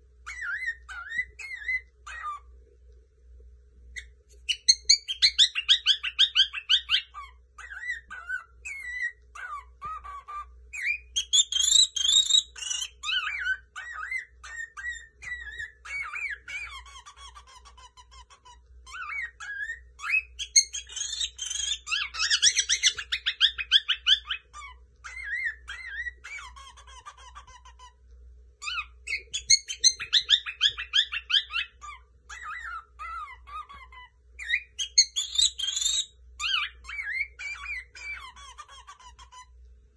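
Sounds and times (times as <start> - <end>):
cockatiel warbling song: 0.2 - 2.5, 4.0 - 28.0, 28.6 - 39.6.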